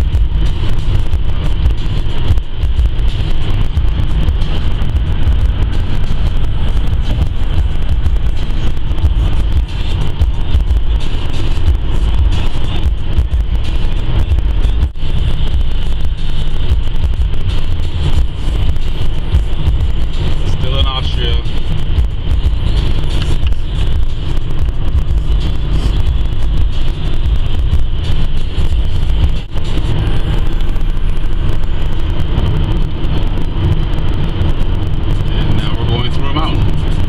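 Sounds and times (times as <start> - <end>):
car interior road rumble: 0.0 - 37.0.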